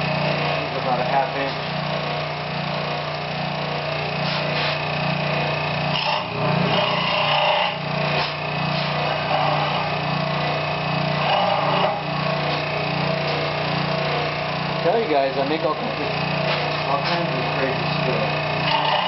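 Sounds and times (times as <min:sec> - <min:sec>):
power tool cutting wood: 0:00.0 - 0:19.0
small power tool motor hum: 0:00.0 - 0:19.0.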